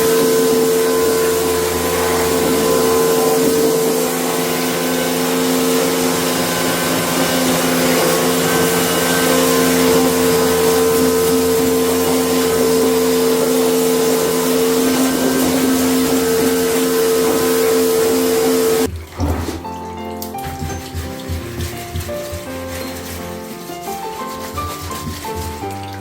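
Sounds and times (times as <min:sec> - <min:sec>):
cleaning machine motor humming: 0:00.0 - 0:26.0.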